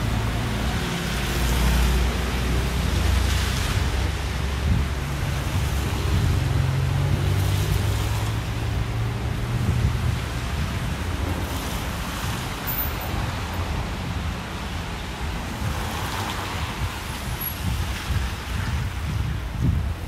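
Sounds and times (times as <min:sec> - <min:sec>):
traffic on wet roads: 0:00.0 - 0:20.0
wind rumbling on microphone: 0:00.0 - 0:20.0.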